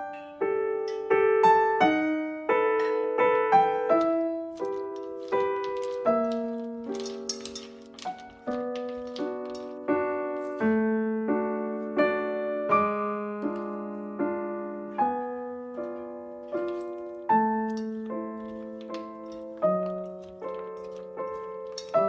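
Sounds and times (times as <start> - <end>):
gentle piano chords: 0.0 - 22.0.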